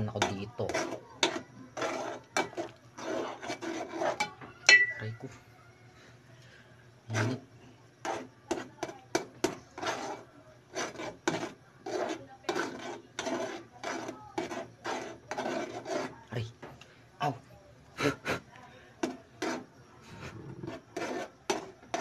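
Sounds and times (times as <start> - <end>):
spoon scraping a pot: 0.0 - 5.4, 7.0 - 16.6, 19.0 - 22.0.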